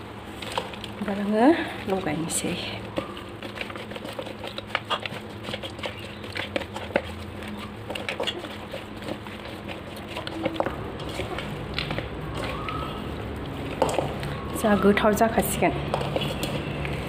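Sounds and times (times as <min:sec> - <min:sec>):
wet squelches of kneaded meat: 0:00.3 - 0:17.0.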